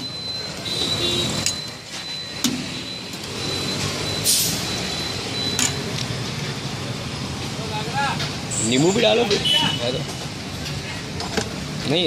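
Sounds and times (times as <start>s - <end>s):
traffic: 0.0s - 12.0s.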